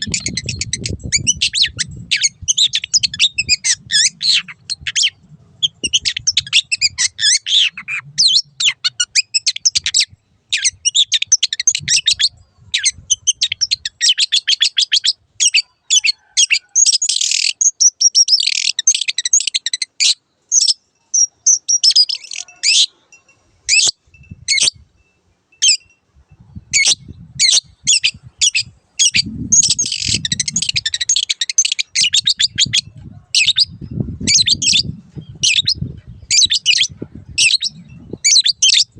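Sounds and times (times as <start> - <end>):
bird chattering song: 0.0 - 23.0, 26.6 - 38.9.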